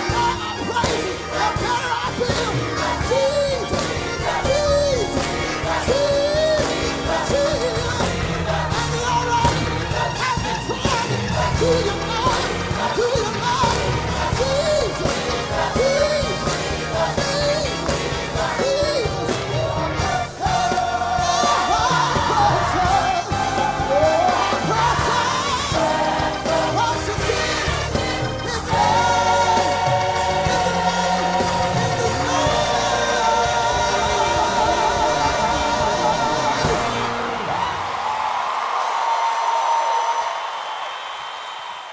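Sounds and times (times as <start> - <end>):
instrumental backing: 0.0 - 37.5
gospel choir singing: 0.0 - 40.1.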